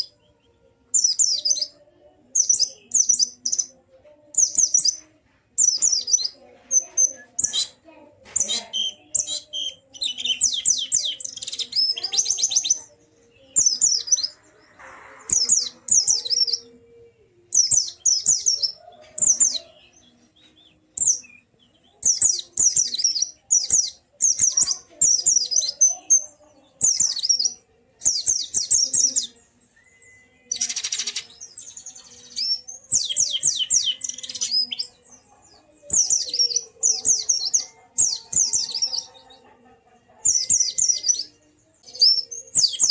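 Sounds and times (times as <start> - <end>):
bird chirping high-pitched: 0.0 - 39.6, 40.2 - 42.9.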